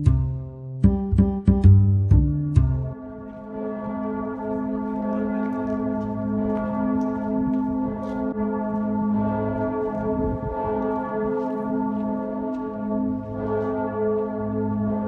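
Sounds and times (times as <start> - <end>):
church bells ringing: 2.8 - 15.0.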